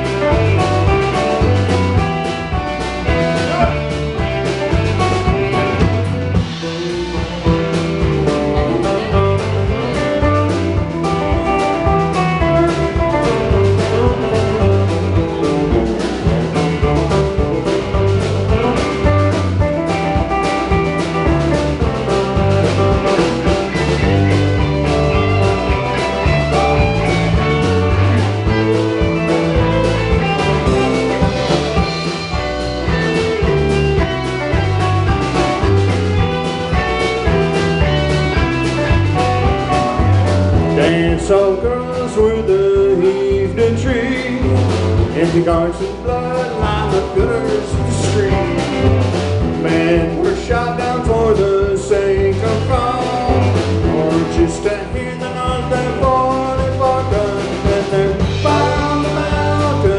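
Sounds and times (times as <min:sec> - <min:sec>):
drums: 0:00.0 - 0:59.9
electric guitars: 0:00.0 - 0:59.9.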